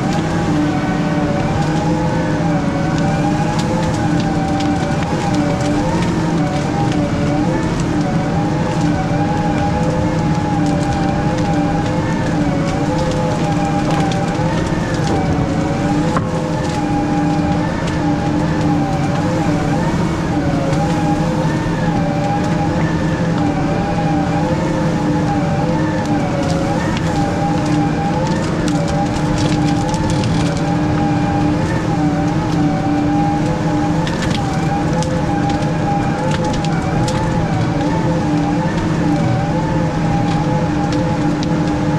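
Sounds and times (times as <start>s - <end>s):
machine engine drone with whine: 0.0s - 41.9s.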